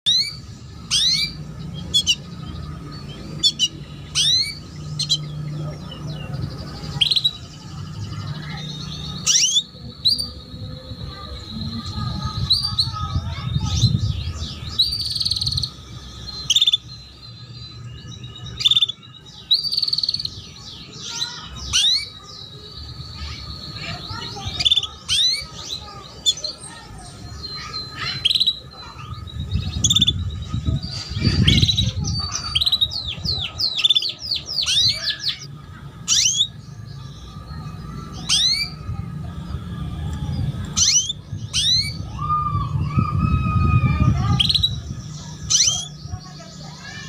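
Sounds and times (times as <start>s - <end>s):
canaries chirping: 0.0s - 47.0s.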